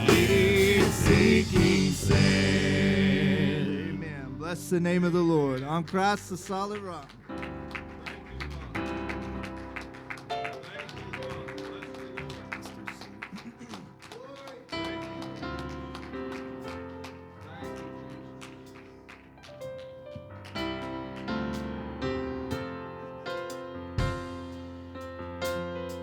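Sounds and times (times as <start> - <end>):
held keyboard chords: 0.0 - 26.0.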